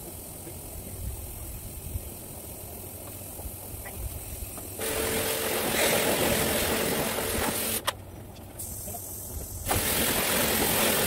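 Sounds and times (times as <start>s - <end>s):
pressure washer spraying: 0.0s - 7.9s, 8.6s - 11.0s.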